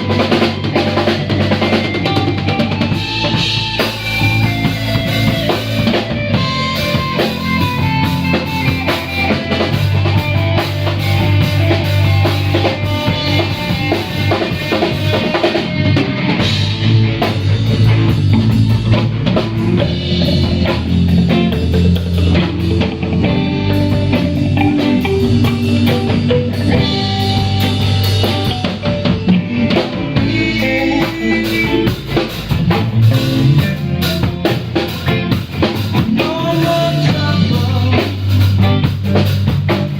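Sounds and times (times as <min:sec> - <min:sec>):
band playing instrumental jam: 0:00.0 - 0:39.9
drum kit with rimshots: 0:00.0 - 0:39.9.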